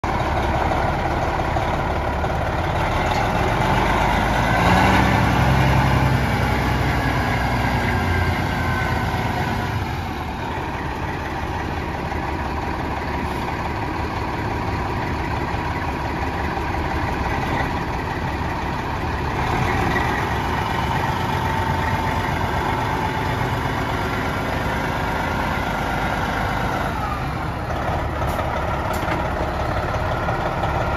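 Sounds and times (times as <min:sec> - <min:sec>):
truck diesel engine idling: 0:00.0 - 0:30.9.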